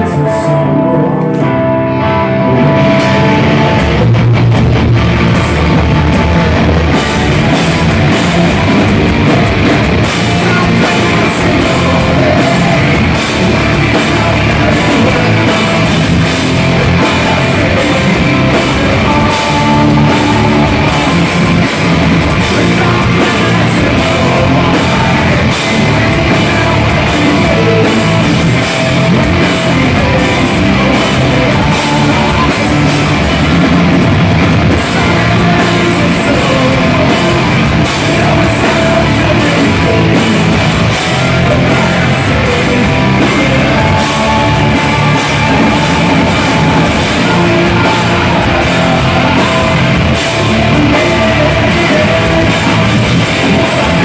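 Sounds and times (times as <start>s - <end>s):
distorted electric guitars: 0.0s - 54.0s
drum kit: 1.2s - 54.0s.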